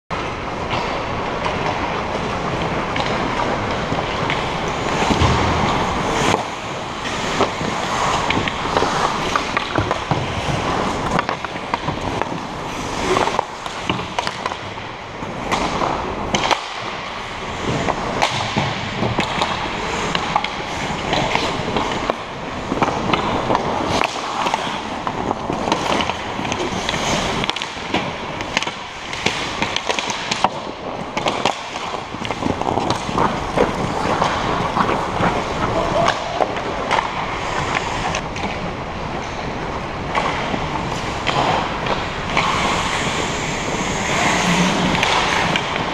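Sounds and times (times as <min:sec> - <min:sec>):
hockey sticks and puck clacking: 0:00.1 - 0:45.9
ice skates scraping ice: 0:00.8 - 0:45.9.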